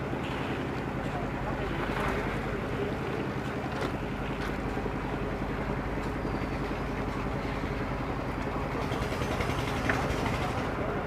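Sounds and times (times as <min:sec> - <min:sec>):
large engine running steadily: 0:00.0 - 0:11.0.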